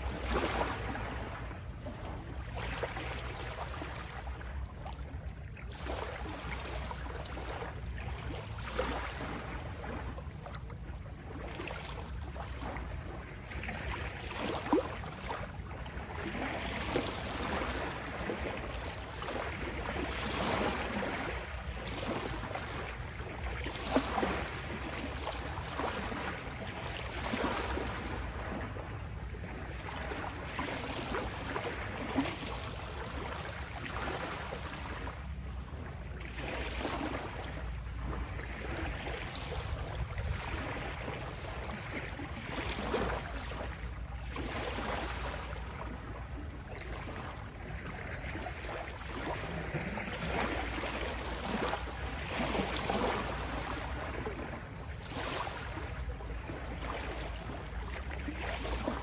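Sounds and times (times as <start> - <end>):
small waves lapping at shore: 0.0 - 59.0
water splashes: 0.0 - 59.0.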